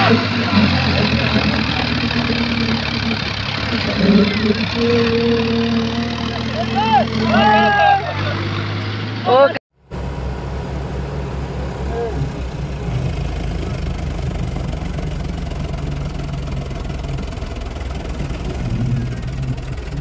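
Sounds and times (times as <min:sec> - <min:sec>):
tractor diesel engines droning: 0:00.0 - 0:20.0.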